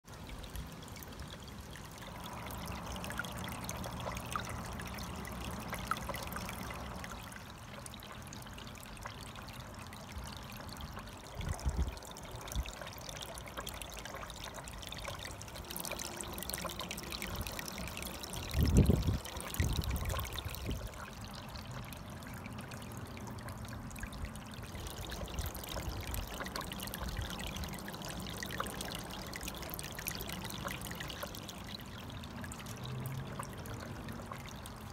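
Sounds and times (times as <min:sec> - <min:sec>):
small waterfall trickling: 0:00.0 - 0:34.9.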